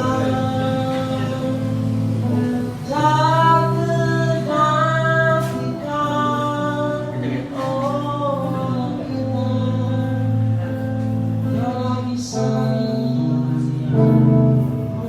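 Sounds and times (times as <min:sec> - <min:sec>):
person singing long notes: 0:00.0 - 0:15.0
sustained instrumental chords: 0:00.0 - 0:15.0.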